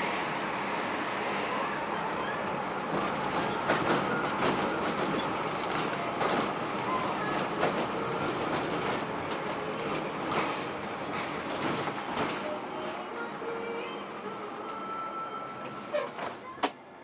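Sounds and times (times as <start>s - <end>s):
bus ride rumble and hiss: 0.0s - 17.0s.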